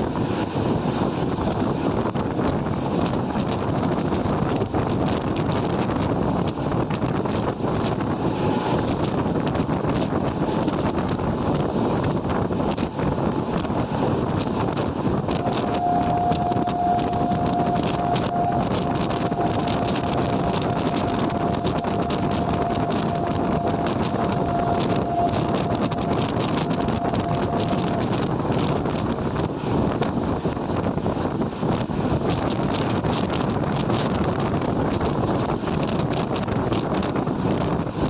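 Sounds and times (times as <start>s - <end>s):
train rumbling past: 0.0s - 38.0s
wind buffeting microphone: 0.0s - 38.0s.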